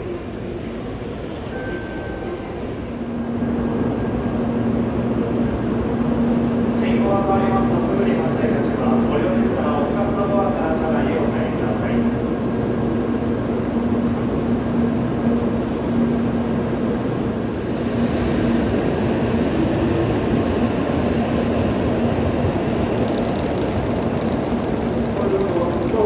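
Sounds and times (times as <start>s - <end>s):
train humming at platform: 0.0s - 26.0s.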